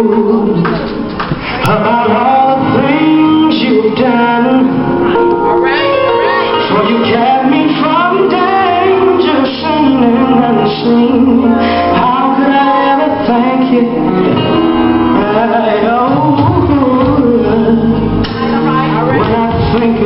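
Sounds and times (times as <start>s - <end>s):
gospel singing with backing: 0.0s - 20.0s.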